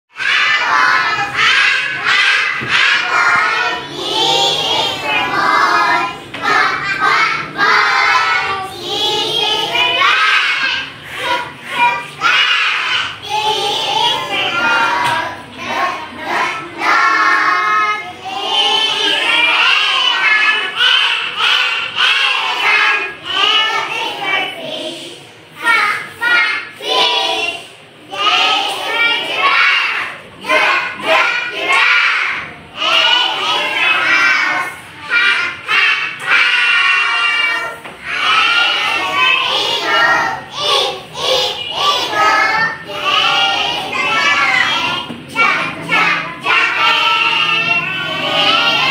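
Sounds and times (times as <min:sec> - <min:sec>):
children singing in unison: 0:00.1 - 0:48.9.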